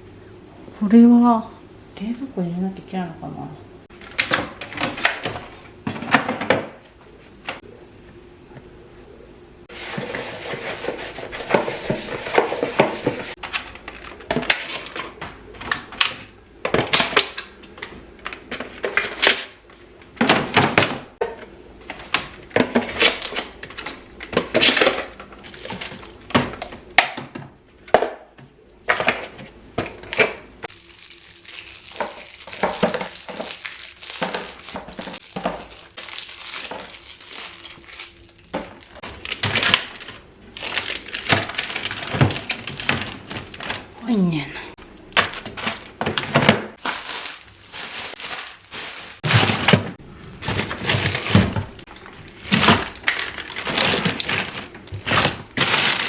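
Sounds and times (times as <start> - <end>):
groceries knocking and rustling: 3.9 - 7.5, 9.7 - 44.0, 44.8 - 56.0.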